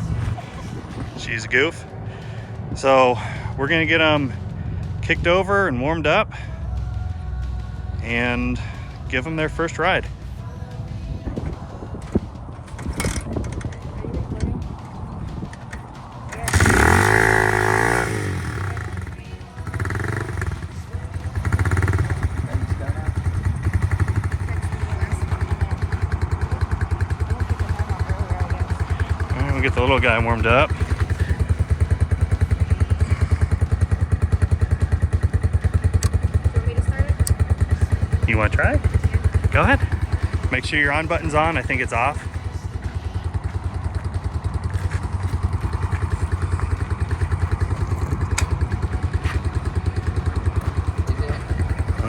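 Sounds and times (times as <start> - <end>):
small motorbike engine idling: 0.0 - 52.0.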